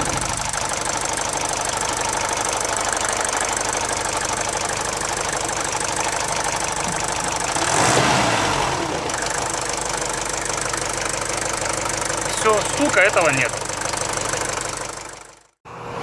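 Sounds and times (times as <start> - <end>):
diesel engine idling: 0.0 - 15.6.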